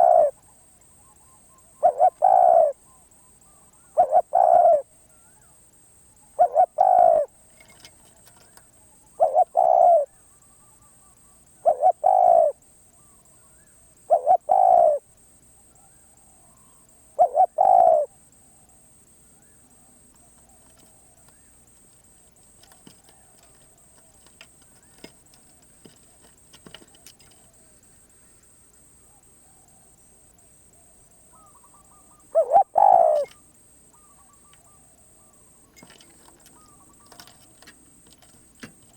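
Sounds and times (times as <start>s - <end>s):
dove cooing: 0.0s - 0.5s, 1.2s - 5.6s, 6.3s - 10.2s, 11.5s - 18.2s, 19.4s - 27.8s, 30.7s - 38.9s.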